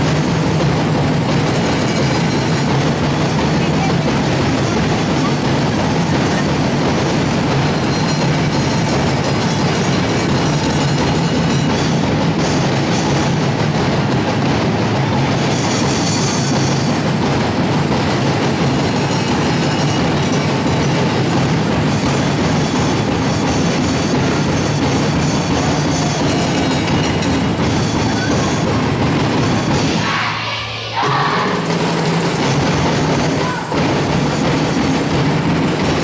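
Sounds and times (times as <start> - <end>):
percussion band drumming fast: 0.0 - 36.0.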